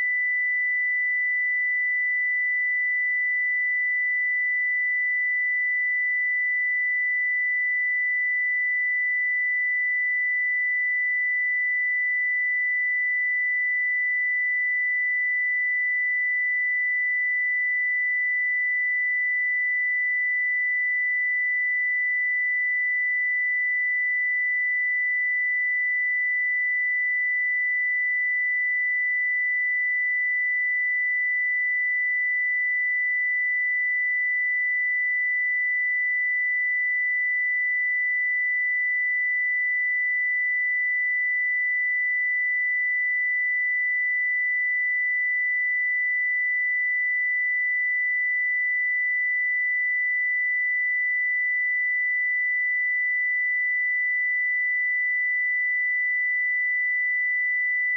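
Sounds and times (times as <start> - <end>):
high-pitched sine test tone: 0.0 - 57.9.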